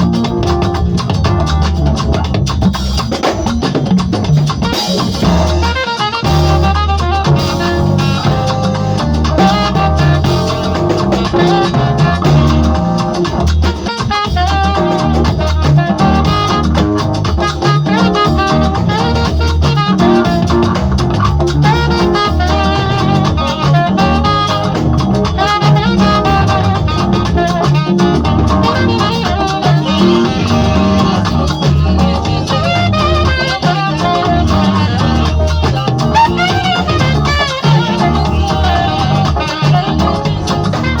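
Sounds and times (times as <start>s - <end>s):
upbeat latin dance music: 0.0s - 41.0s.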